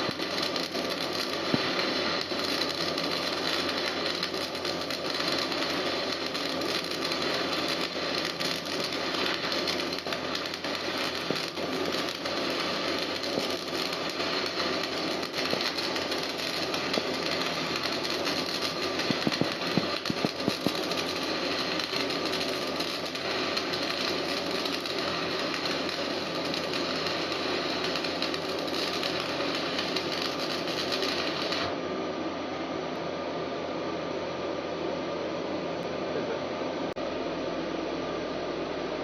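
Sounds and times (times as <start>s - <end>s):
sharp welding pops: 0.0s - 31.8s
welding arc crackling and hissing: 0.0s - 31.8s.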